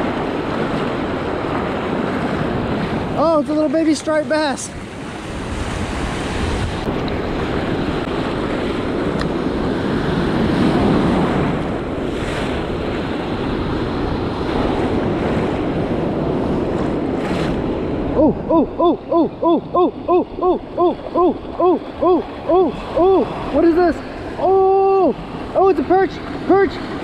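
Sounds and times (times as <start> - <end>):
ocean surf breaking: 0.0 - 27.0
wind on microphone: 0.0 - 27.0.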